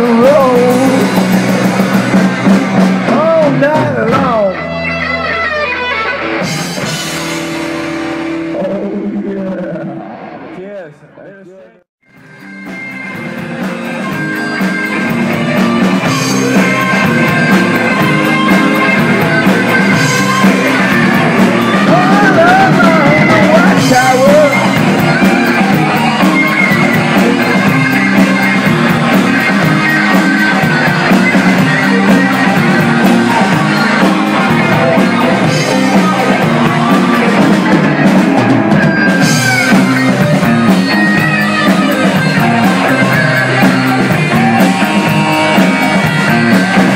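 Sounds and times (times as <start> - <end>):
drum kit: 0.0 - 10.2, 12.1 - 46.9
electric guitar: 0.0 - 10.6, 12.1 - 46.9.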